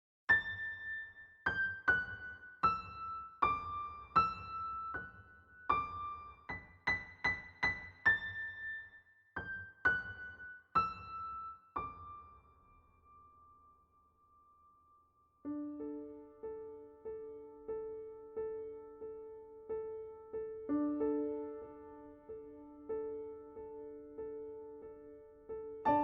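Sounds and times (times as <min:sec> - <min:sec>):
slow solo piano melody: 0:00.3 - 0:26.0.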